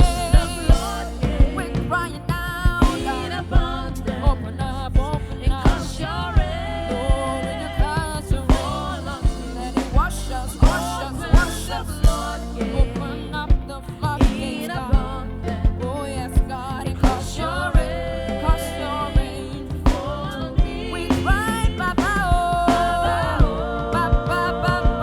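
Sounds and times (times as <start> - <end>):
bass and keyboard chords: 0.0 - 25.0
drum beat: 0.0 - 25.0.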